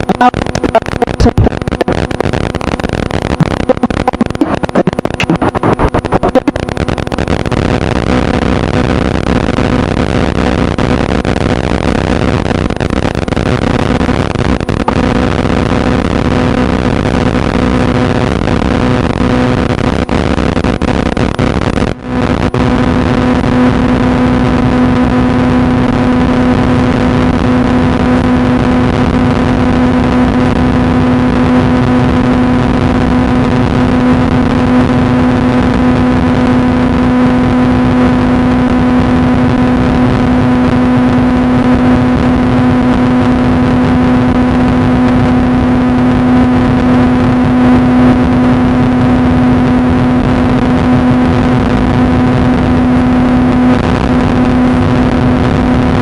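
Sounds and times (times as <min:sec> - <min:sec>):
noisy hiss: 0:00.0 - 0:56.0
steady fixed-pitch hum: 0:00.0 - 0:56.0.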